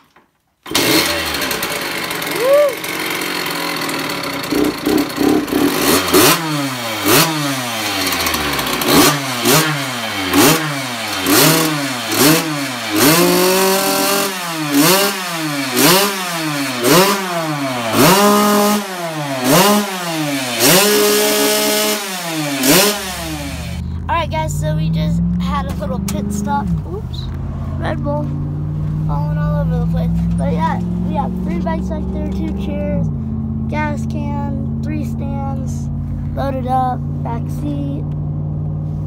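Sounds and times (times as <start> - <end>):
two-stroke motorbike engine revving: 0.6 - 39.0.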